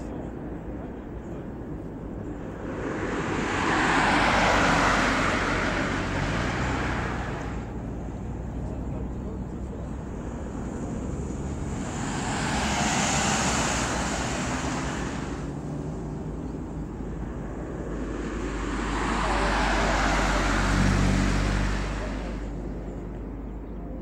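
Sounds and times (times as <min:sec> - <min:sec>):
cars passing by: 0:00.0 - 0:24.0.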